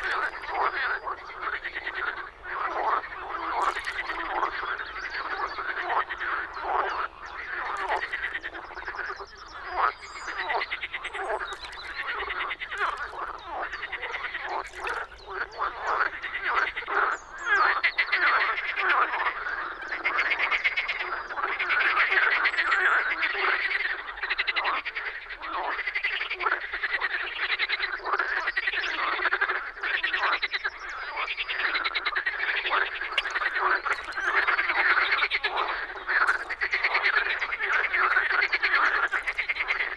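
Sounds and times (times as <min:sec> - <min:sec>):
frogs croaking in chorus: 0:00.0 - 0:39.9.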